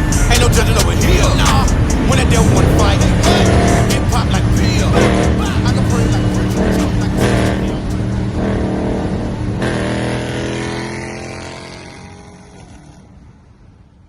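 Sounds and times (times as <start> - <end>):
car engine running and revving: 0.0 - 13.5.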